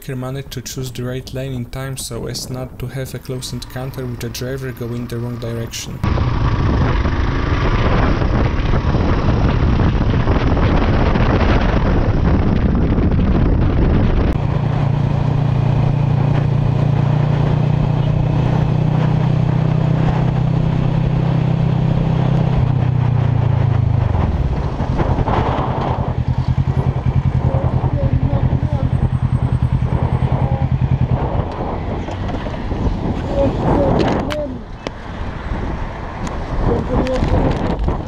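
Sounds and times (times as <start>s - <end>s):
motorcycle engine cruising: 3.3s - 38.0s
wind noise on microphone: 6.0s - 38.0s.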